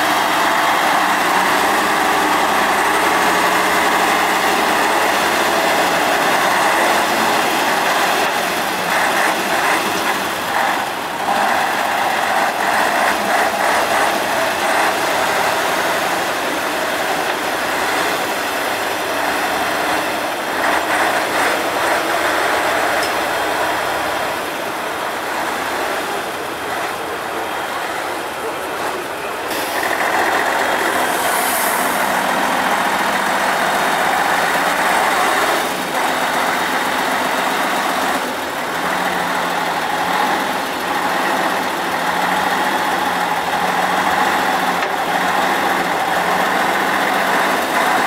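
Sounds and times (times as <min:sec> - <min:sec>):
truck diesel engine running hard: 0:00.0 - 0:48.0.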